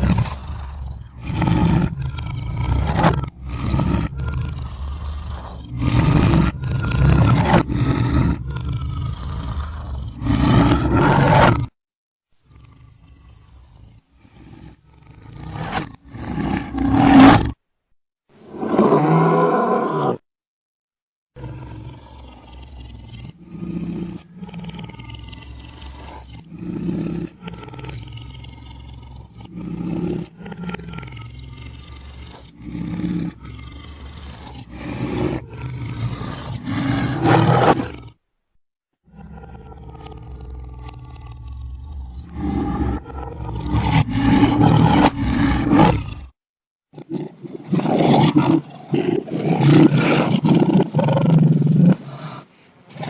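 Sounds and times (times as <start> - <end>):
reversed lion roars: 0.0 - 11.8, 12.4 - 17.6, 18.4 - 20.2, 21.4 - 38.2, 39.0 - 53.0.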